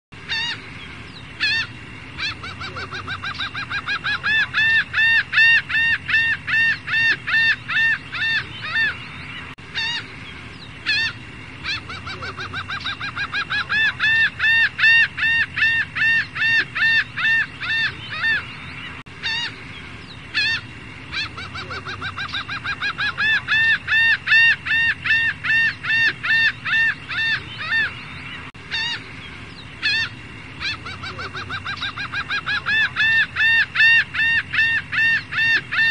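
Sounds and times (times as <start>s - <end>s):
bird calls: 0.2s - 35.9s.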